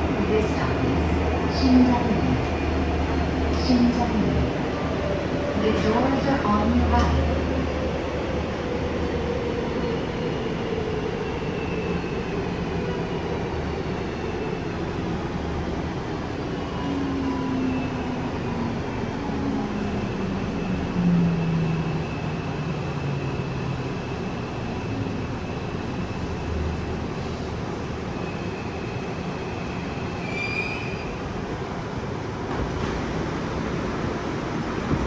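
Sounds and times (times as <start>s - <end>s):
subway traction drive whining: 0.0s - 35.0s
wheels rumbling on rail: 0.0s - 35.0s.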